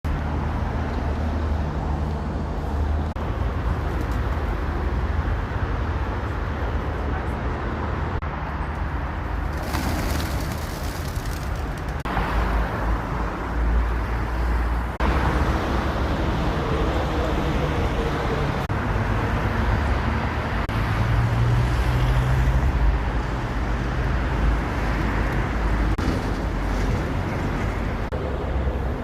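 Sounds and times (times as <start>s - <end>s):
road traffic rumble: 0.1s - 29.0s.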